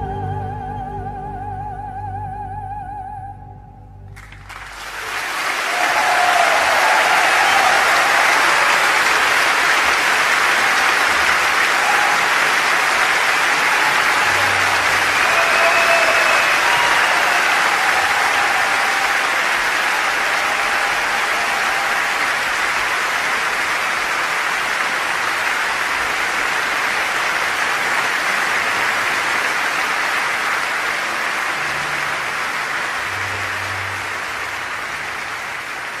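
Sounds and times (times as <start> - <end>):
audience applauding: 4.1 - 36.0.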